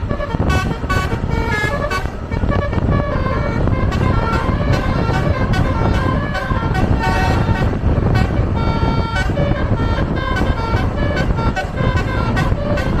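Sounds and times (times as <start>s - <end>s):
bus engine rumble: 0.0s - 13.0s
bus multi-tone horn melody: 0.0s - 13.0s.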